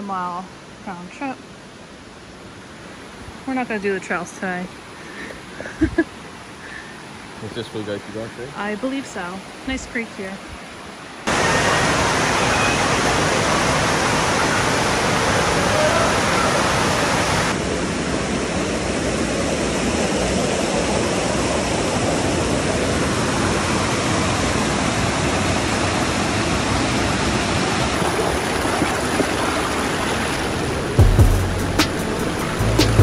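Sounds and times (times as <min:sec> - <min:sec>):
creek water rushing over rocks: 0:01.7 - 0:33.0.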